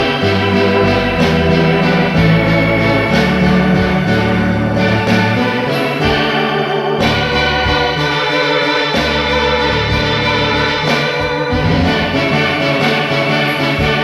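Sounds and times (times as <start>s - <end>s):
organ-toned keyboard chords: 0.0s - 14.0s.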